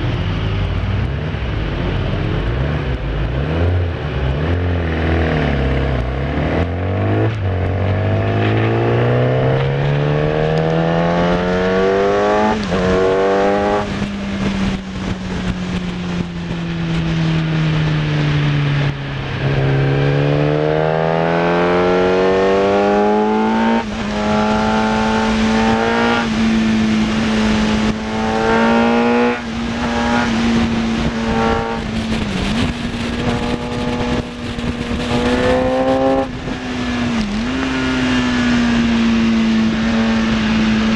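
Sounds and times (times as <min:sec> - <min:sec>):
sports bike engine revving: 0:01.0 - 0:17.0, 0:18.0 - 0:40.9.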